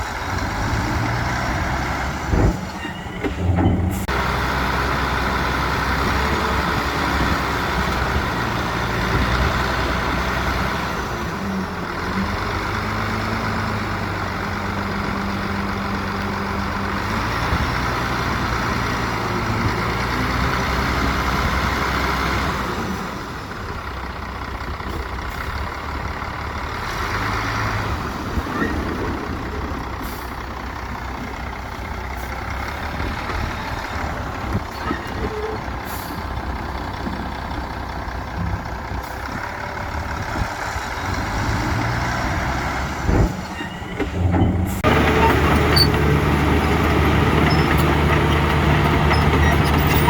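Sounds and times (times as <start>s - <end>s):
diesel engine running: 0.0s - 50.0s
heavy diesel machinery rumbling: 0.0s - 50.0s.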